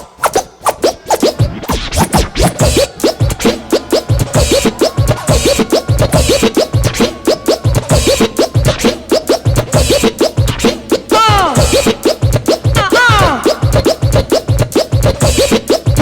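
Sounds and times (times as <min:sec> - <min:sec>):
hip hop beat: 0:00.0 - 0:16.0
record scratching: 0:00.0 - 0:16.0.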